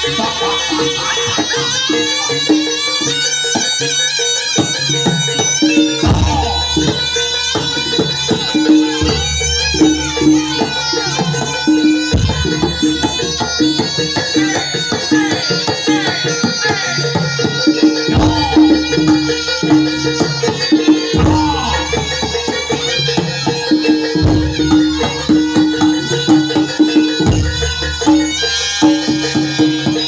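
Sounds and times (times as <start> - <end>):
drums and struck percussion: 0.0 - 30.0
reed wind instrument melody: 0.0 - 30.0.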